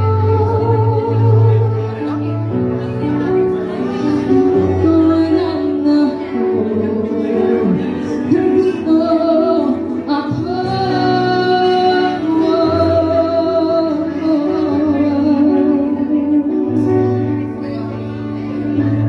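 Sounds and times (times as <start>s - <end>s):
woman singing into microphone: 0.0s - 2.4s, 3.8s - 17.5s.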